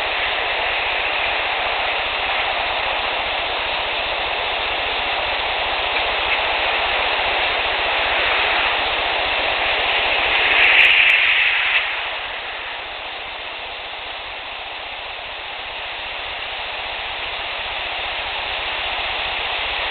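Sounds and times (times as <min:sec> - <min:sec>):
distant highway traffic hiss: 0:00.0 - 0:19.9.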